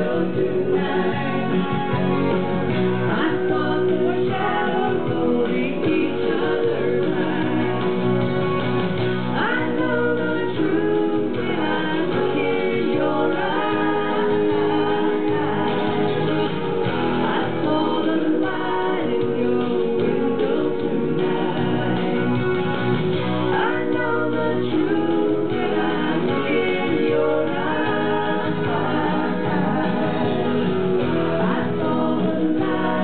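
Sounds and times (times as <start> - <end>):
woman singing into microphone: 0.0 - 8.2, 9.1 - 33.0
guitar accompaniment: 0.0 - 33.0.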